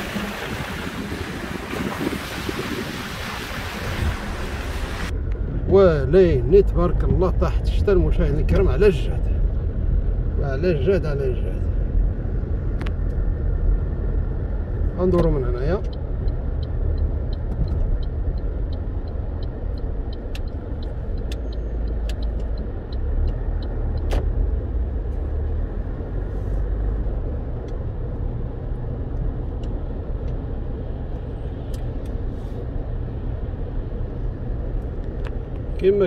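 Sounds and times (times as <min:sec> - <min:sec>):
car engine and tyres on wet road: 0:00.0 - 0:36.0.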